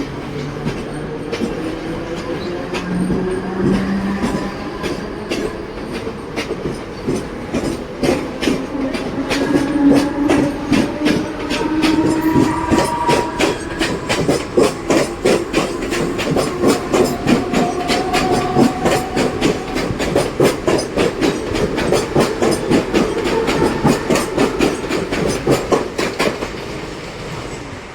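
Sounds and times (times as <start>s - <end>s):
train wheels clattering over rail joints: 0.3s - 27.2s.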